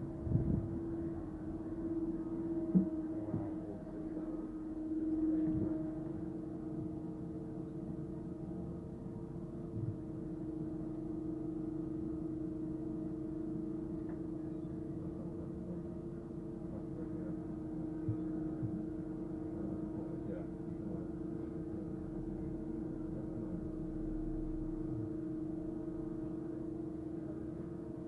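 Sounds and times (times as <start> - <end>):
train whine and rumble: 0.0 - 28.0.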